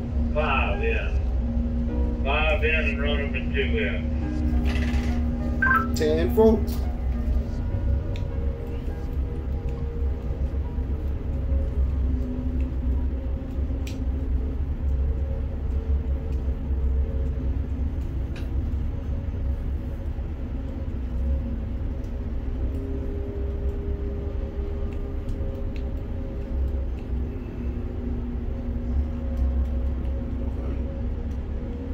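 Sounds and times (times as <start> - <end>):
crane machinery low rumbling drone: 0.0 - 31.9
faint motor hum: 0.0 - 31.9.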